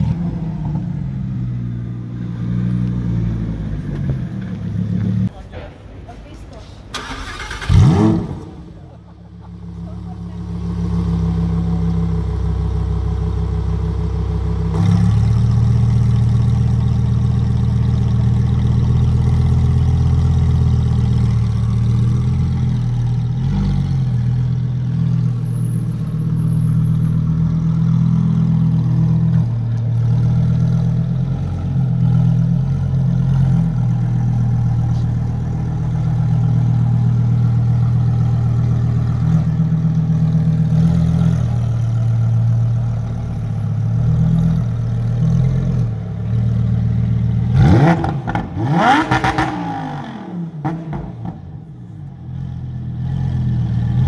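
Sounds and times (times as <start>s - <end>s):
sports car engine idling: 0.0s - 54.0s.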